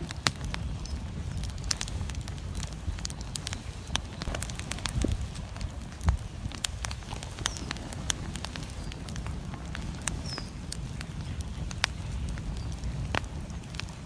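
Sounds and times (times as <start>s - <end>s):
storm wind: 0.0s - 14.0s
wood fire crackling and popping: 0.0s - 14.0s.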